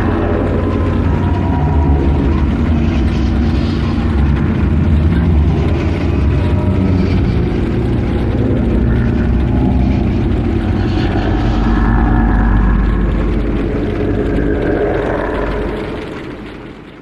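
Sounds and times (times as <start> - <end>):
deep rumble: 0.0 - 17.0
layered droning tones: 0.0 - 17.0.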